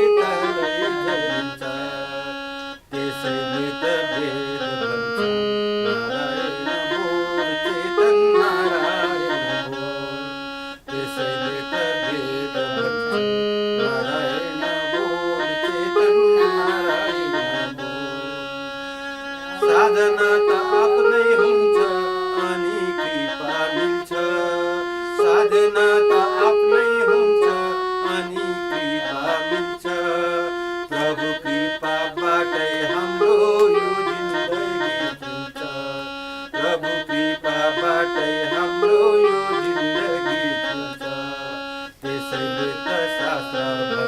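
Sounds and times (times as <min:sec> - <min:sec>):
reed instrument melody: 0:00.0 - 0:44.0.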